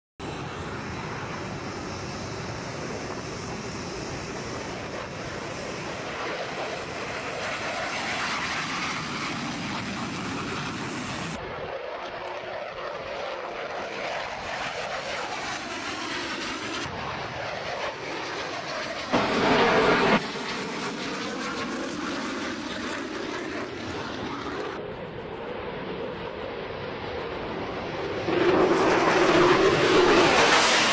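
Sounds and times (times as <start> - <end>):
jet engines rushing: 0.2 - 30.9.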